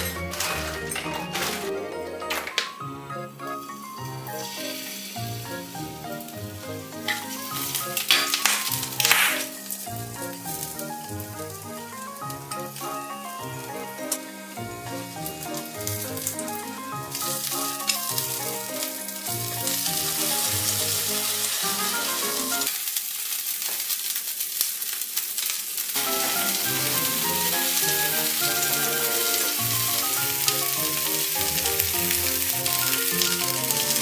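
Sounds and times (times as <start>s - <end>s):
light background music: 0.0s - 22.7s, 26.0s - 34.0s
vegetables sizzling in a frying pan: 3.4s - 34.0s.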